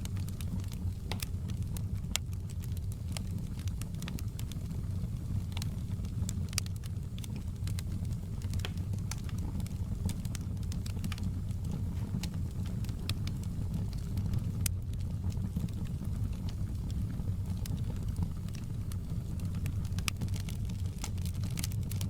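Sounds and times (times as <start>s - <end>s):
fire rumbling: 0.0s - 22.0s
wood crackling and popping: 0.0s - 22.0s.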